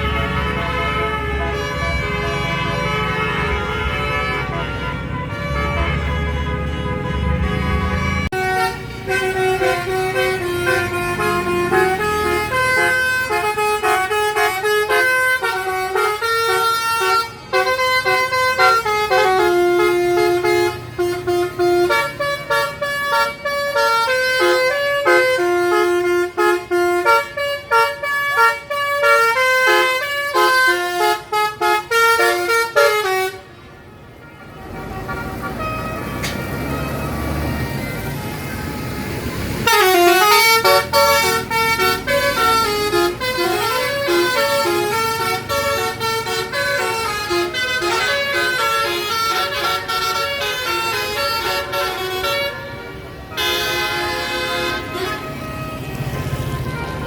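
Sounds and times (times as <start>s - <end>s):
multi-tone bus horn melody: 0.0s - 57.0s
vehicle engine noise: 0.0s - 57.0s.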